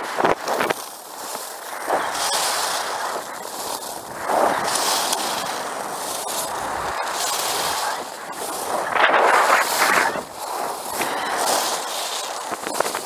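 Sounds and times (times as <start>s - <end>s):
skis hissing over snow: 0.0s - 13.0s
wind buffeting microphone: 0.0s - 13.0s.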